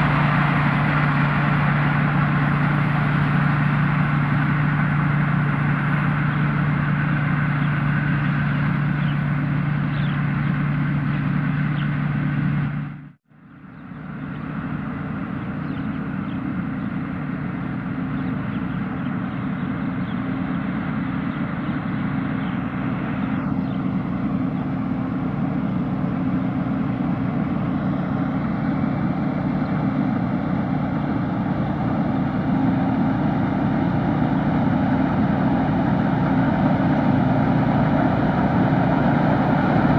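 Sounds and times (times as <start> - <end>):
combine harvester engine hum: 0.0 - 39.9.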